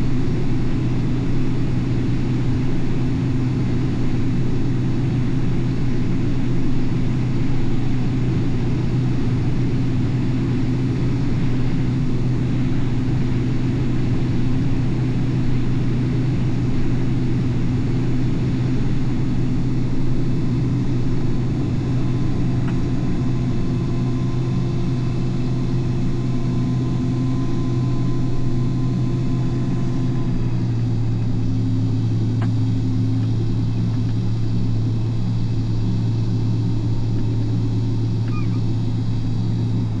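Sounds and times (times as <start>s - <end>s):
combine harvester engine hum: 0.0s - 40.0s.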